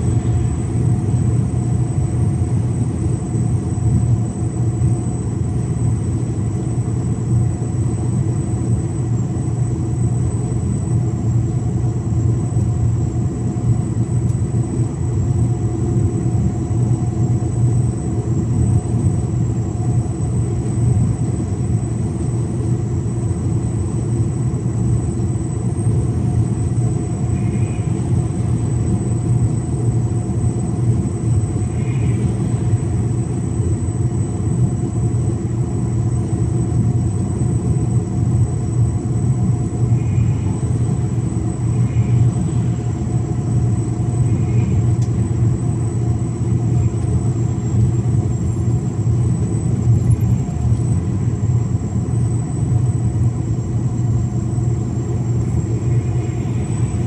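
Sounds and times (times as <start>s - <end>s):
thin high whine: 0.0s - 57.0s
truck engine drone: 0.0s - 57.0s.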